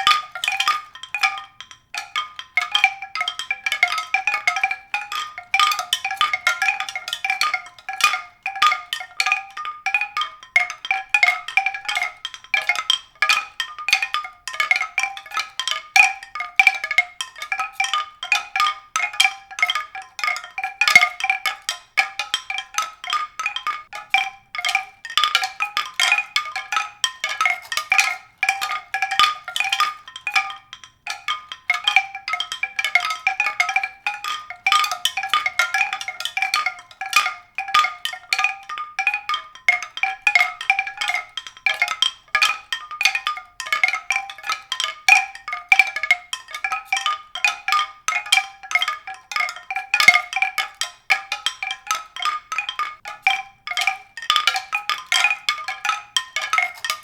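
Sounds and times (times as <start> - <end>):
mallet-struck tones: 0.0 - 57.0.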